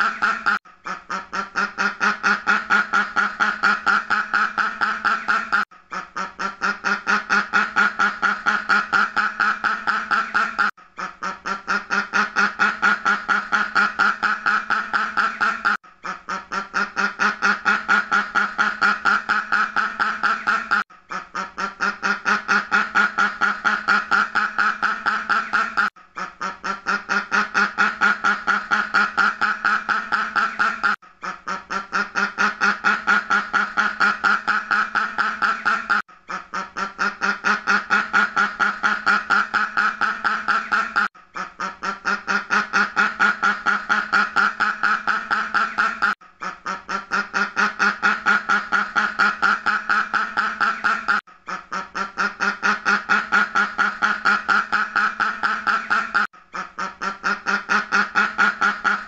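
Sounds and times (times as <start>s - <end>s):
duck quacking rapidly: 0.0s - 59.0s.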